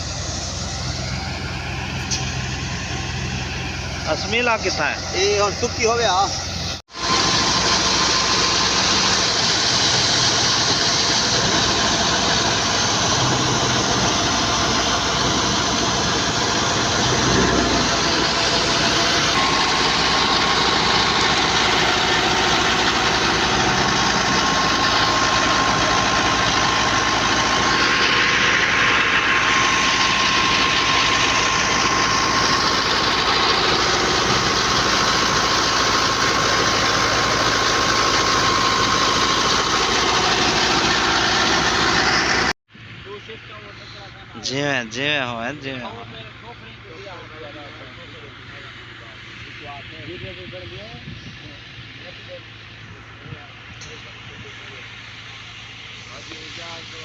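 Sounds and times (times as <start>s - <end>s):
thresher running: 0.0s - 57.0s
tractor engine: 0.0s - 57.0s.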